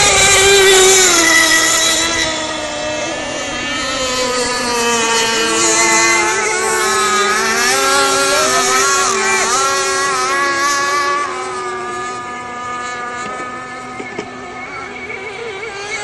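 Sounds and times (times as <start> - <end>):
racing boat motors buzzing: 0.0 - 16.0.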